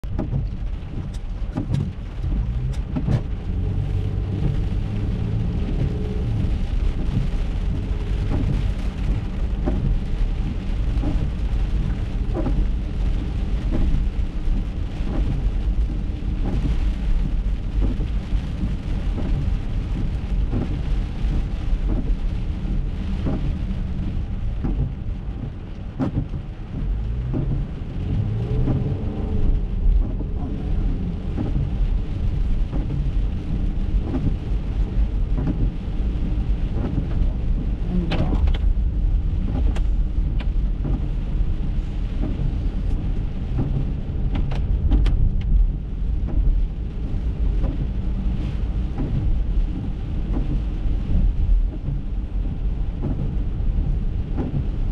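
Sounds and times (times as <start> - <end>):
car driving on wet road: 0.0 - 54.9
rain tapping on windshield: 0.0 - 54.9.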